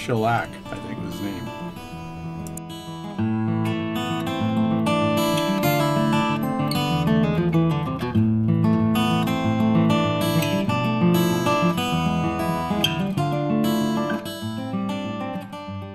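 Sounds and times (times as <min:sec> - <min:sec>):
acoustic guitar strumming chords: 0:00.0 - 0:15.9.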